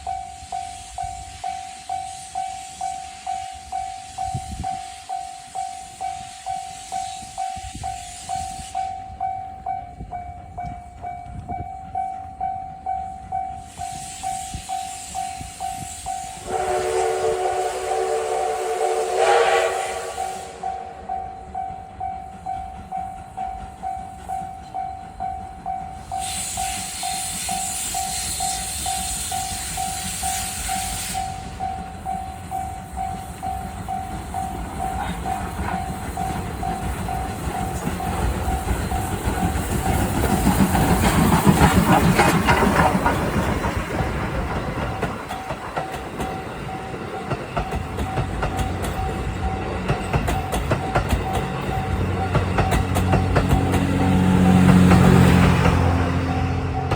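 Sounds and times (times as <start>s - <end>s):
hissing steam: 0.0s - 9.2s, 13.5s - 21.6s, 25.9s - 56.9s
level-crossing warning bell: 0.0s - 41.0s, 43.4s - 56.9s
steam locomotive exhaust chuffs: 0.0s - 56.9s
train wheels clacking on rails: 0.0s - 56.9s.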